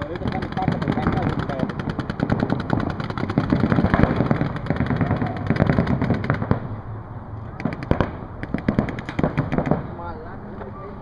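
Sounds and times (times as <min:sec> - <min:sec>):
paintball markers firing: 0:00.0 - 0:06.6, 0:07.6 - 0:09.9.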